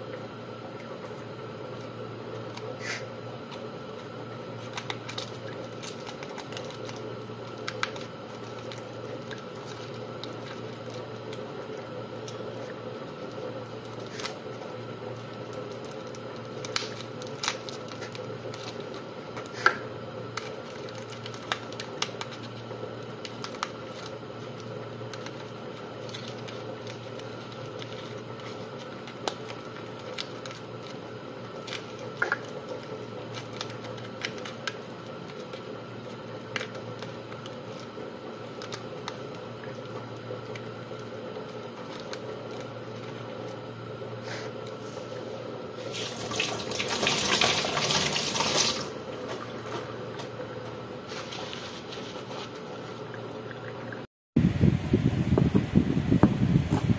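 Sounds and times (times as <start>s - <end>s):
steady hum: 0.0s - 56.9s
aluminium foil crinkling: 0.8s - 53.1s.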